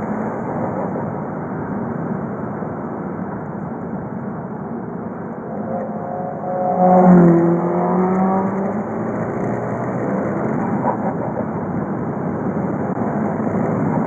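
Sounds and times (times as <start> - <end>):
diesel car engine driving: 0.0 - 14.0.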